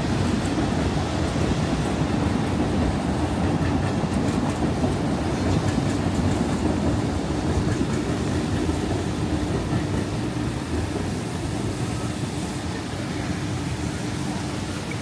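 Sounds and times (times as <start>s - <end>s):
passing train rumble: 0.0s - 15.0s.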